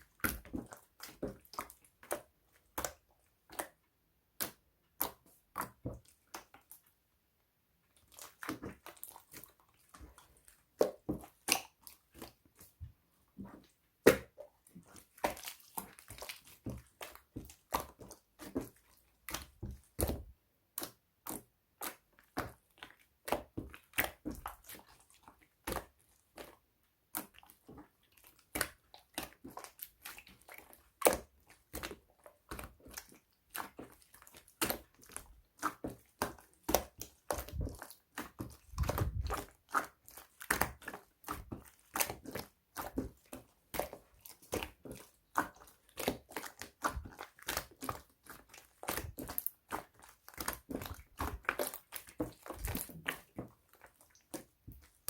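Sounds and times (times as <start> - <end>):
slime squishing: 0.0 - 7.0, 7.8 - 55.0.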